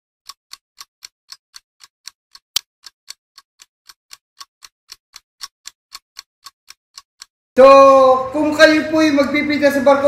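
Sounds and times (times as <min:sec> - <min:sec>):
steady ticking: 0:00.2 - 0:10.0.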